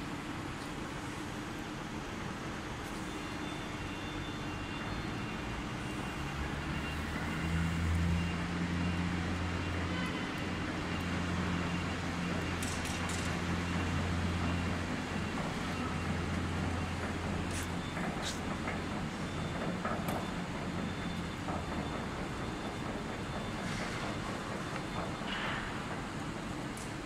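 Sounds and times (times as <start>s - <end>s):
machinery noise: 2.9s - 27.0s.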